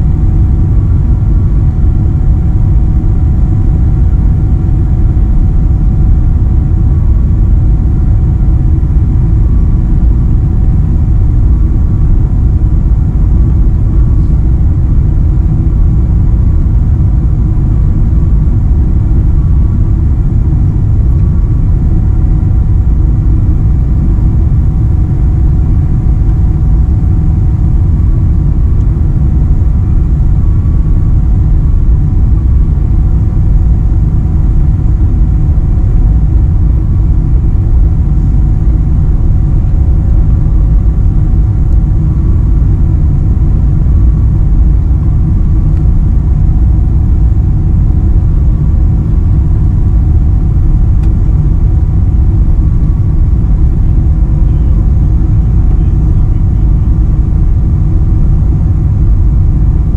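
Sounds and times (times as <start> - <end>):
airplane cabin rumble: 0.0 - 59.9
faint whining tones: 0.0 - 59.9.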